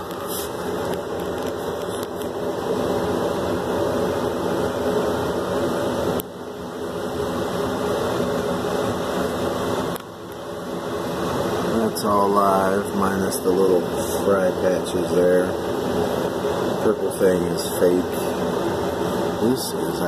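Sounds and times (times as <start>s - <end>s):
aquarium equipment hum and whir: 0.0s - 20.0s.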